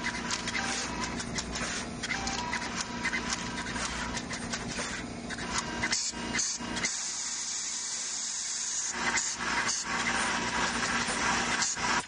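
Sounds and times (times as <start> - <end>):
assembly machinery running: 0.0 - 12.0.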